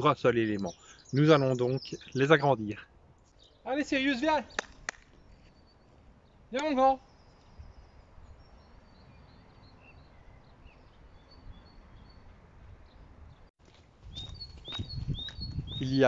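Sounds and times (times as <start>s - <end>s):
faint songbird chirps: 0.0s - 16.0s.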